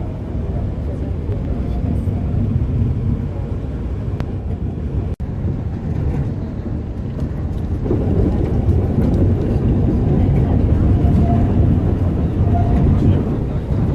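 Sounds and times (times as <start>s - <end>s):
train running with low rumble: 0.0s - 13.9s.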